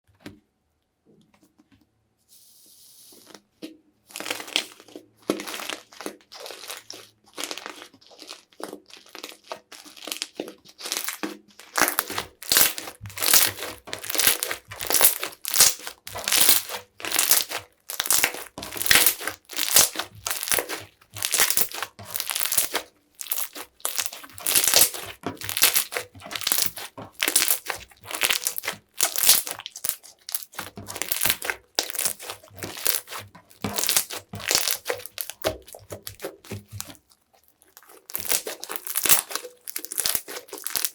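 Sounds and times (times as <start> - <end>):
slime squished by hand: 4.1 - 40.9.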